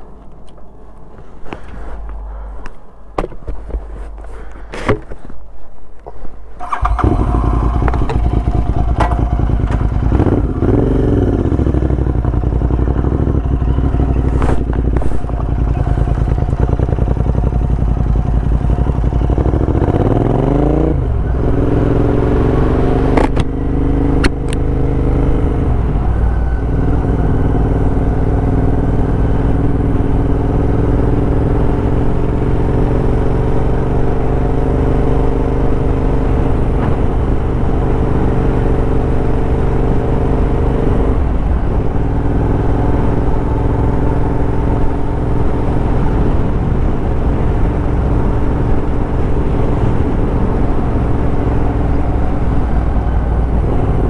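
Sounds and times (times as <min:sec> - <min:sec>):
motorcycle engine accelerating: 0:06.6 - 0:54.0
motorcycle exhaust note: 0:06.6 - 0:54.0.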